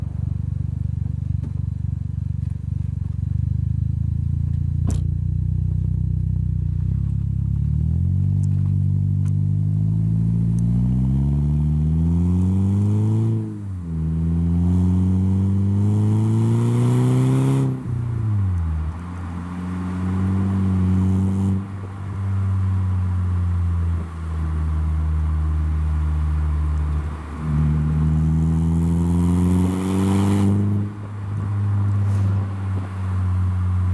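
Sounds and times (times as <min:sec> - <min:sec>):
car exhaust accelerating: 0:00.0 - 0:33.9.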